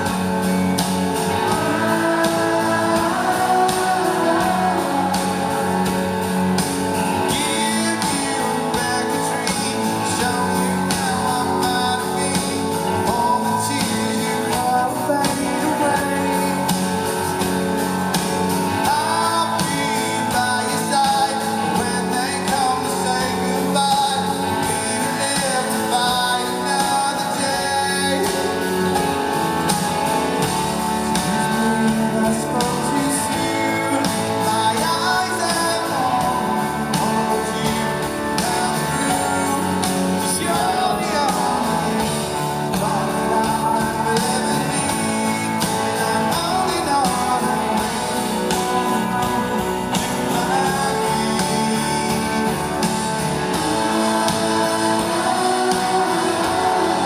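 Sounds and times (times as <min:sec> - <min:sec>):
live rock band playing: 0:00.0 - 0:57.0
man singing lead vocal: 0:00.0 - 0:57.0.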